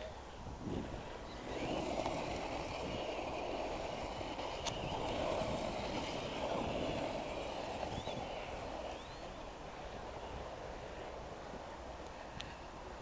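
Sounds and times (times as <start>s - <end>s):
tyres on dirt: 0.0s - 11.2s
rc truck motor whine: 0.6s - 11.2s.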